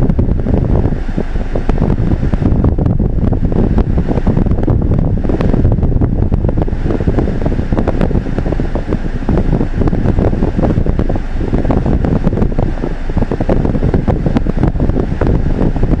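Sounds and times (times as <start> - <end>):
car cabin rumble and hiss: 0.0 - 16.0.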